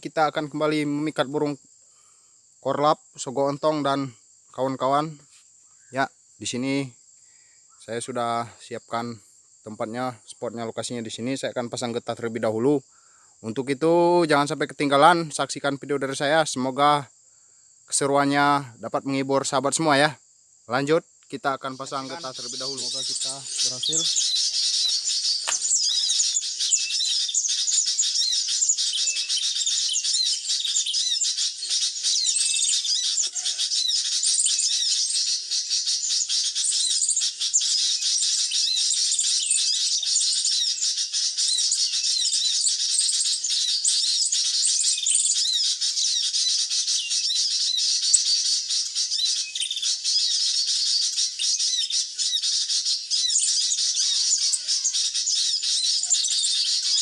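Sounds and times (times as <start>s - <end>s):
birds twittering and chirping: 0.0s - 57.0s.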